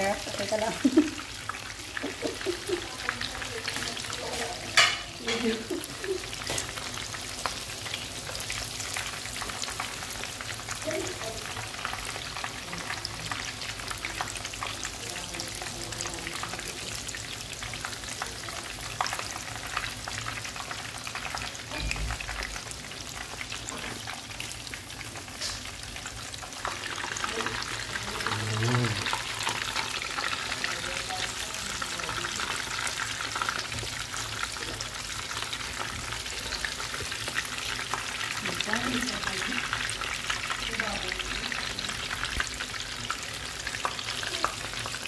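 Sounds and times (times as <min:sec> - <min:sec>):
shrimp deep-frying in hot oil: 0:00.0 - 0:45.0.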